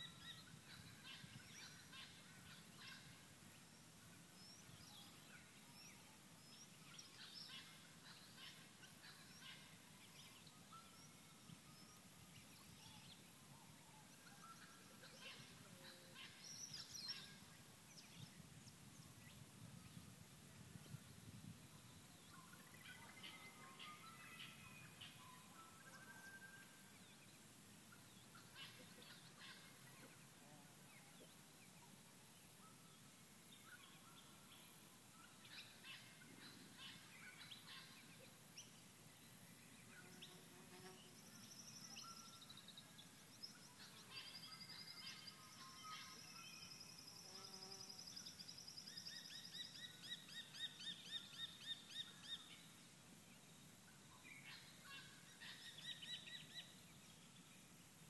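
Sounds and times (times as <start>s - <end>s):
faint bird chirps and calls: 0.0s - 58.0s.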